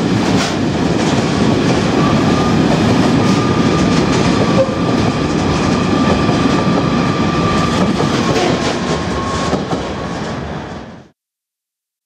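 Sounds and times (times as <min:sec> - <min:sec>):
train wheels rumbling on rails: 0:00.0 - 0:11.1.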